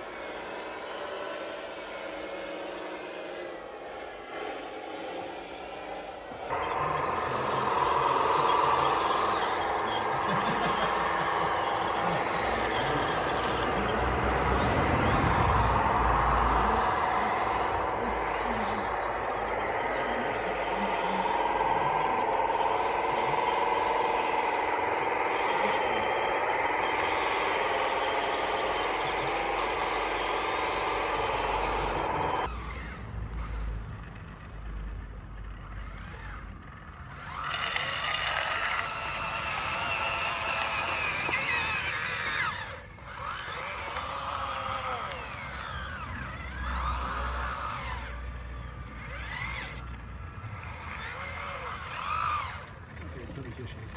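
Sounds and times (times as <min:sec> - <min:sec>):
electric motors whining: 0:00.0 - 0:53.9
hydraulic pump whining: 0:00.0 - 0:53.9.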